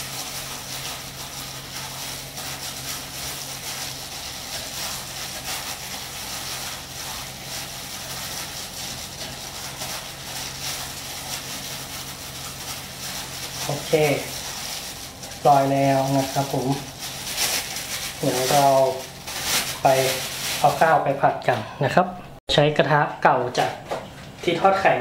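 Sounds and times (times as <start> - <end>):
hand mixing rice in a bowl: 0.0 - 21.5.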